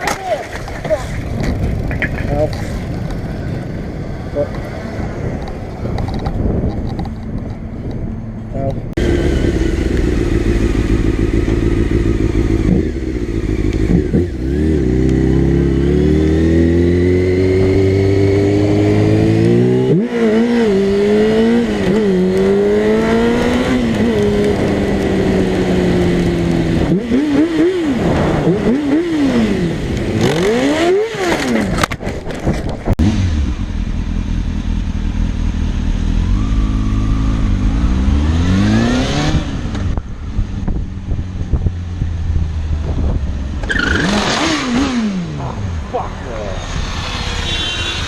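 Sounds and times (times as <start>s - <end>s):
motorcycle engine revving: 9.0s - 48.0s.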